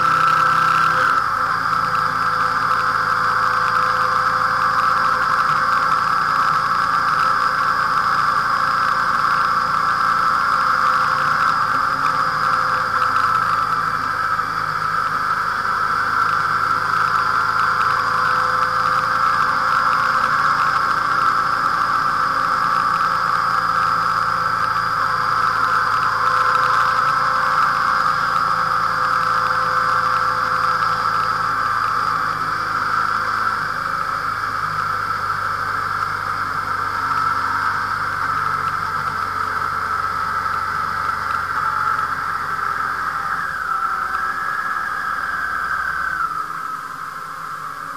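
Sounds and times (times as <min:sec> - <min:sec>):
motorcycle engine hum: 0:00.0 - 0:47.9
wind and road noise: 0:00.0 - 0:47.9.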